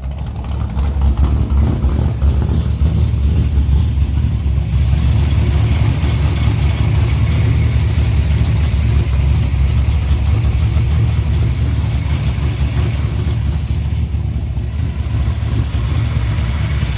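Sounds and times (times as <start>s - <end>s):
truck engine rumbling: 0.0s - 16.9s.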